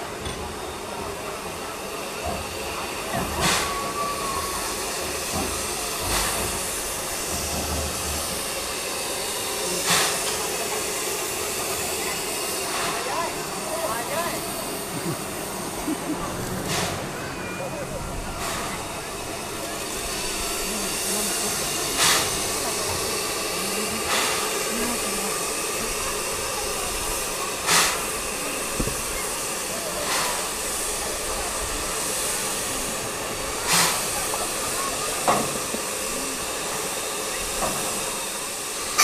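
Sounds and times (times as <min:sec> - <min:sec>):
puffs of steam hiss: 0:00.0 - 0:39.0
steam engine hissing: 0:00.0 - 0:39.0.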